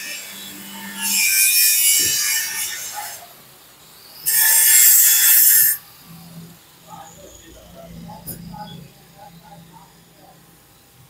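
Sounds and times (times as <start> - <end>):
harsh rasping metalworking noise: 0.0 - 3.4, 4.2 - 10.5.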